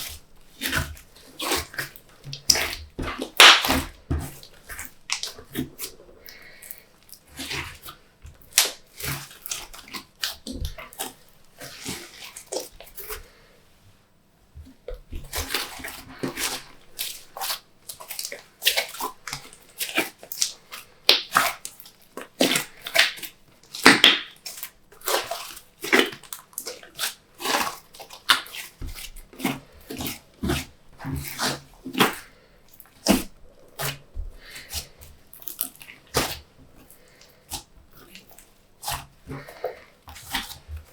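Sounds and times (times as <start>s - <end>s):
slime squelching by hand: 0.0s - 13.4s, 14.9s - 40.9s.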